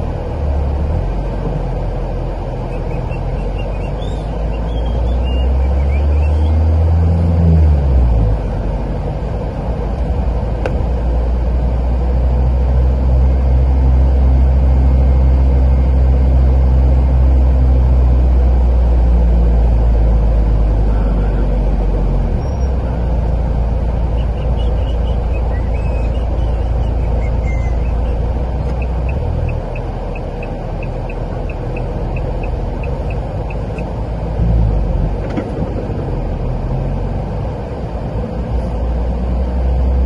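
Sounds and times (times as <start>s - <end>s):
car engine drone: 0.0s - 40.0s
tyre and road noise: 0.0s - 40.0s.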